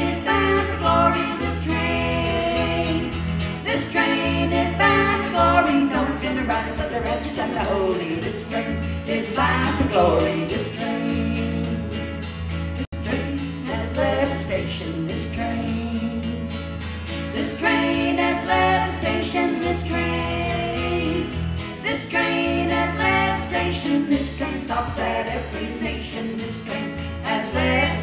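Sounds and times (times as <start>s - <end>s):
women singing in harmony: 0.0s - 12.1s, 13.0s - 16.6s, 17.3s - 28.0s
acoustic guitar: 0.0s - 28.0s
bass guitar low notes: 0.0s - 28.0s.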